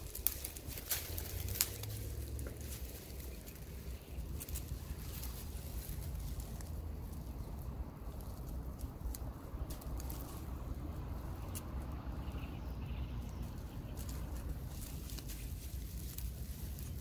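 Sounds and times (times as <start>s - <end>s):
dry grass rustling and crackling: 0.0s - 17.0s
low steady rumble: 0.0s - 17.0s.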